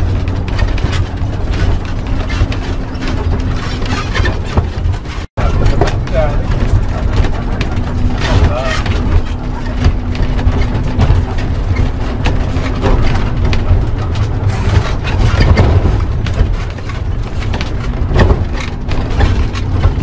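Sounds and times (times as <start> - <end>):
knocks and rattles: 0.0 - 20.0
vehicle engine and road rumble: 0.0 - 20.0.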